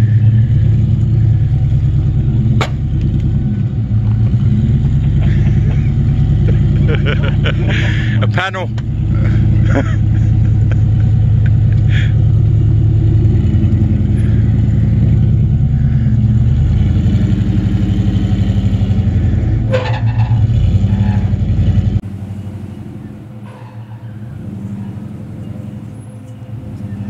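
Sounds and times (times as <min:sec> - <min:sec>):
off-road engine rumbling: 0:00.0 - 0:27.0.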